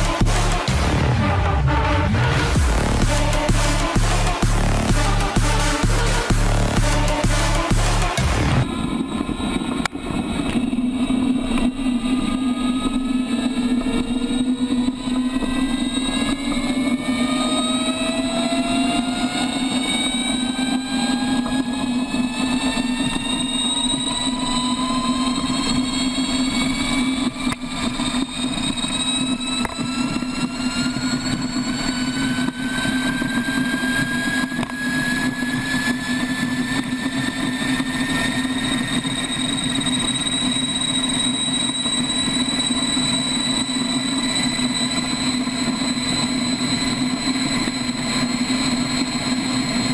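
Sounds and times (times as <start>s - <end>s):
large engine drone: 0.0s - 49.9s
whine rising in pitch: 0.0s - 49.9s.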